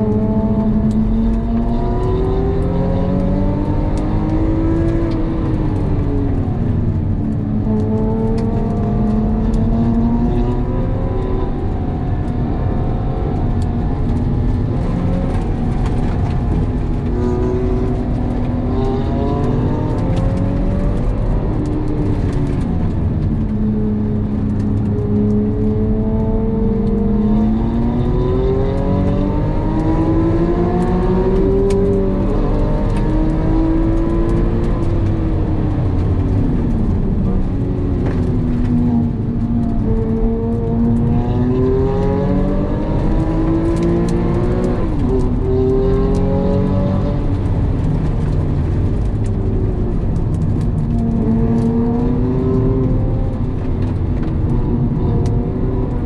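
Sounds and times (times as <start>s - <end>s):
road rumble: 0.0s - 56.0s
sports car engine revving: 0.0s - 56.0s.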